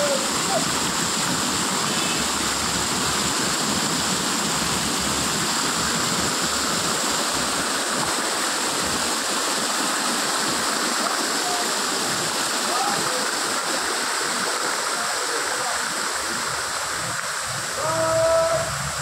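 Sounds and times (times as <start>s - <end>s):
fountain water splashing: 0.0s - 19.0s.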